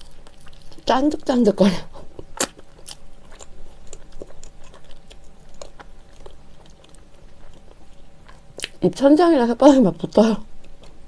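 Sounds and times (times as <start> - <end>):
chewing soft bread: 0.0 - 9.2, 10.0 - 11.0.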